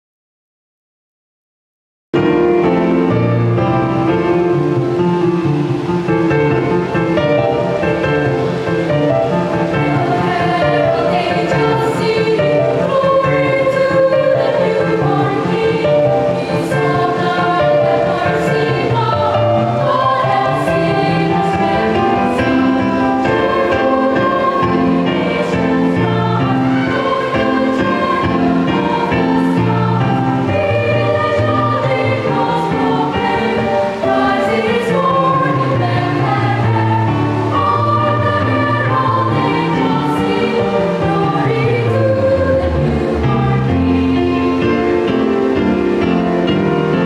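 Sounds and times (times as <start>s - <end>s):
children's choir singing: 2.6s - 47.0s.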